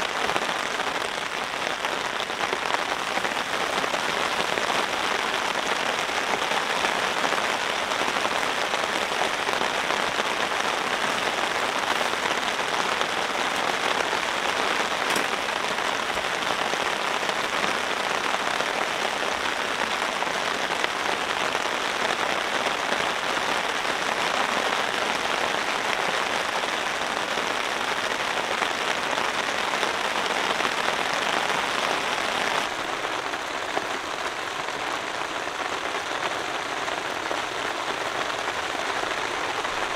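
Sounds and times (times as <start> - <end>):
rain on a tarp: 0.0 - 39.9.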